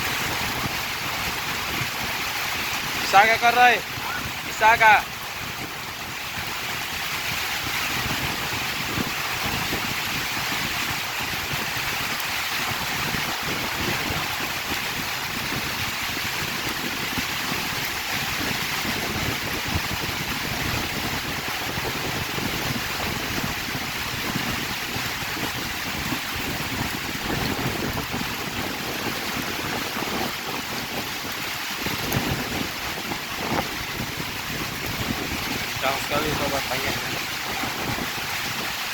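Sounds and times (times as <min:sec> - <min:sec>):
heavy rain: 0:00.0 - 0:38.9
wind buffeting microphone: 0:00.0 - 0:38.9.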